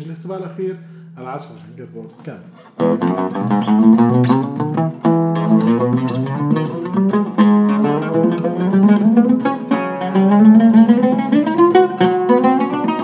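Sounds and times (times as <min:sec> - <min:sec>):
oud plucked melody: 0:02.4 - 0:13.0.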